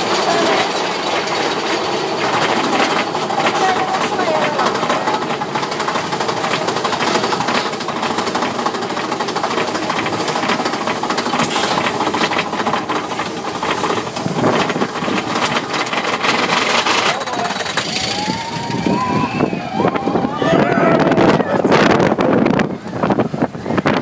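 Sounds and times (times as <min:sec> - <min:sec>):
roller coaster wheels rattling: 0:00.0 - 0:24.0.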